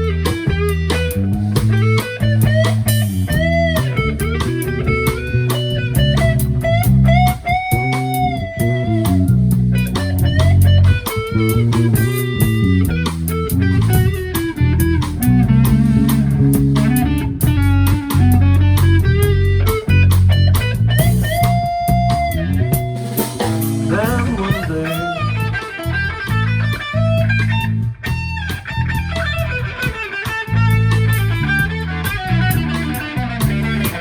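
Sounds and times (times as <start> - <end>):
bass and drums: 0.0 - 34.0
lead guitar melody: 0.0 - 34.0.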